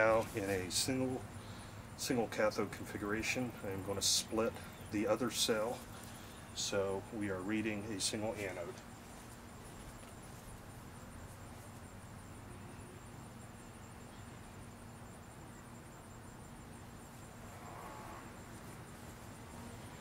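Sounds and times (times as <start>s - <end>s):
insects trilling: 0.0s - 20.0s
steady low hum: 0.0s - 20.0s.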